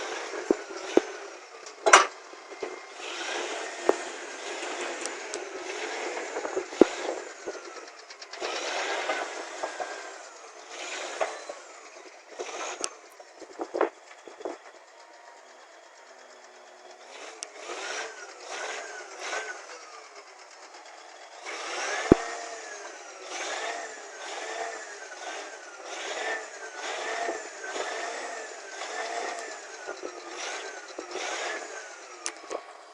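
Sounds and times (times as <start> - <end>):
bulldozer clatter: 0.0 - 32.9.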